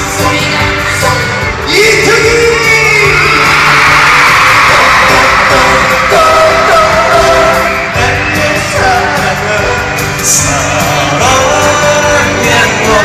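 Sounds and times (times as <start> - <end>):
live pop music with singing: 0.0 - 13.0
audience yelling: 0.4 - 13.0.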